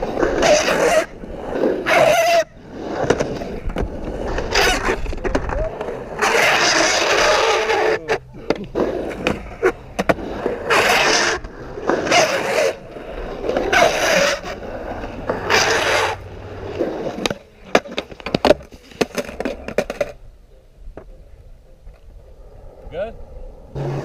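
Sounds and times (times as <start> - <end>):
skateboard wheels rolling on concrete: 0.0 - 24.0.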